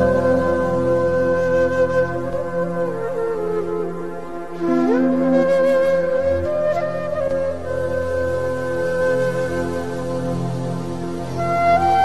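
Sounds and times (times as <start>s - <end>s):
slow melody of long notes: 0.0s - 12.0s.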